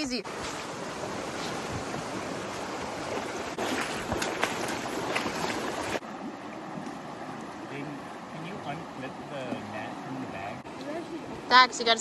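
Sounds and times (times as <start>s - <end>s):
river water rushing: 0.3s - 12.0s.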